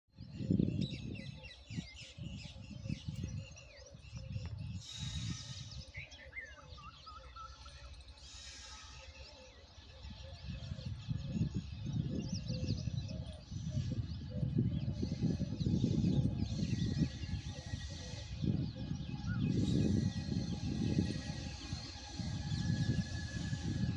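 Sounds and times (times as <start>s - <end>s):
wind buffeting microphone: 0.1s - 7.4s, 8.1s - 23.9s
small birds chirping: 0.2s - 23.9s.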